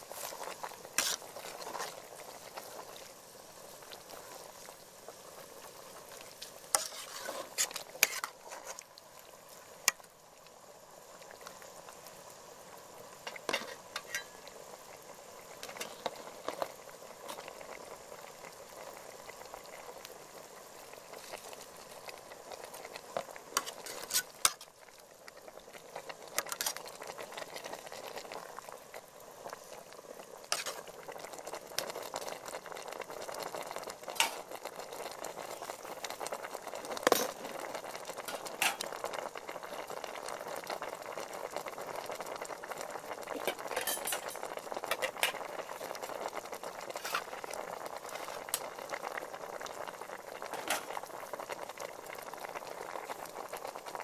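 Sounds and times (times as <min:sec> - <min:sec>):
soup bubbling in a pot: 0:00.0 - 0:54.0.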